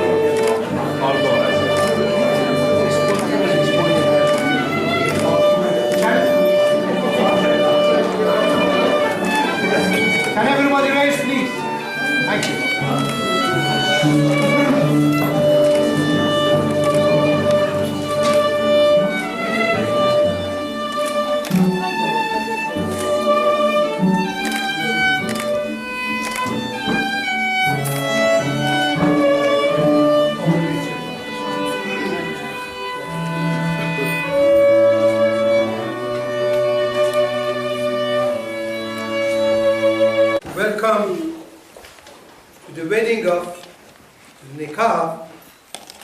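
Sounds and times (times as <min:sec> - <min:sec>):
violin melody: 0:00.0 - 0:41.6.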